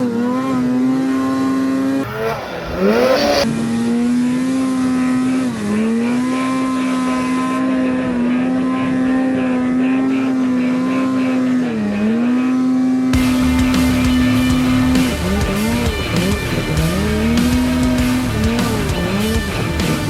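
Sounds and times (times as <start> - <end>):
snowmobile engine at high revs: 0.0 - 20.0.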